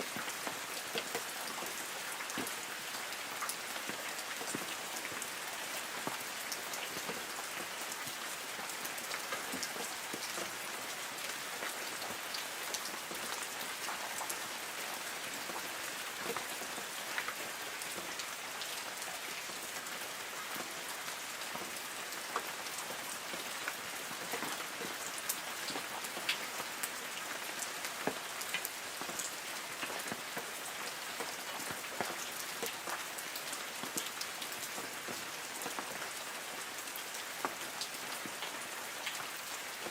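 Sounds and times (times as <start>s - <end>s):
light rain on trees: 0.0s - 39.9s.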